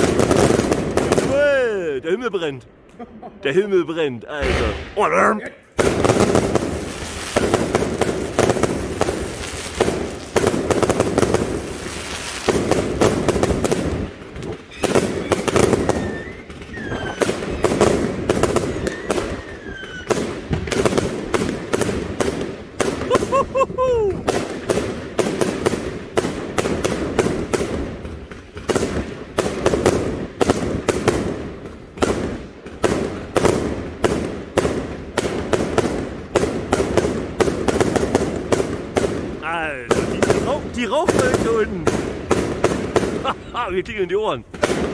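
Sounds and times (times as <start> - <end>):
whistling fireworks: 0.0 - 1.8, 5.8 - 44.9
fireworks bangs and crackling: 0.0 - 2.6, 3.5 - 44.9.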